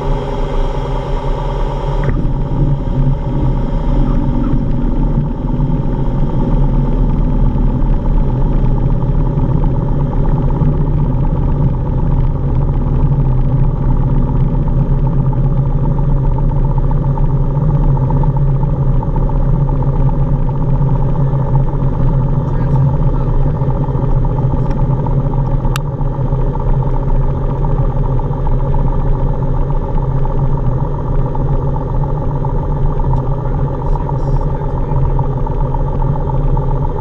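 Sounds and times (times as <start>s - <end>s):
propeller airplane engine drone: 0.0s - 37.0s.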